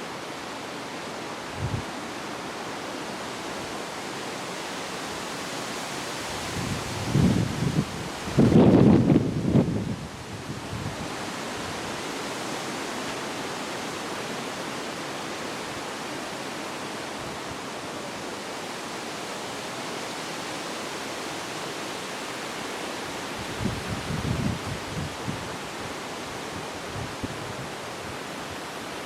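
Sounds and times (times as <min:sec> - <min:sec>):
wind rushing through trees: 0:00.0 - 0:29.0.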